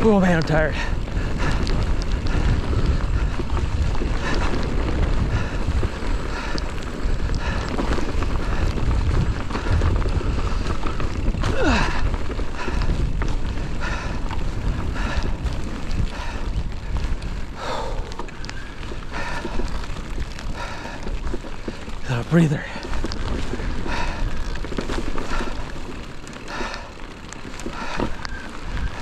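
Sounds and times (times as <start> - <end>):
mountain bike clicks and rattles: 0.0 - 29.0
wind buffeting microphone: 0.0 - 29.0.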